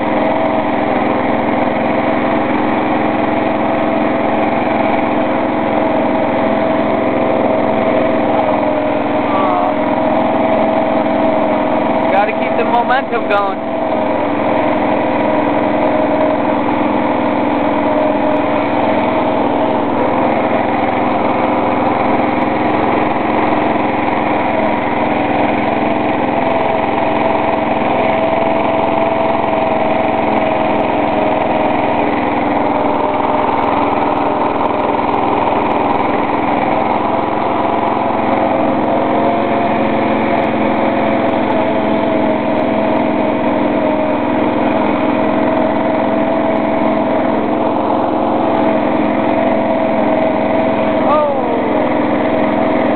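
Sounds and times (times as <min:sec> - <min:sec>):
lawn tractor engine running: 0:00.0 - 0:52.9.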